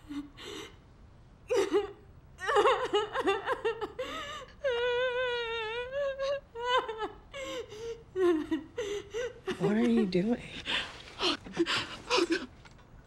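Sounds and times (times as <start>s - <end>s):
woman sobbing and wailing: 0.0s - 0.8s, 1.5s - 12.6s.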